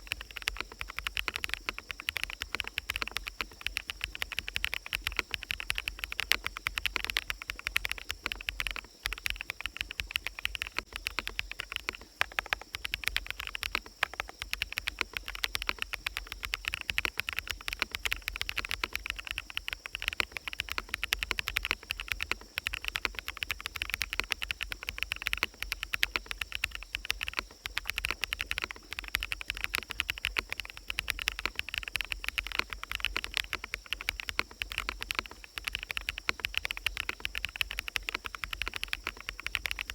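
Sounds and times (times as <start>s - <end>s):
fast typing on mechanical keyboard: 0.0s - 39.9s
forest ambience: 0.0s - 39.9s.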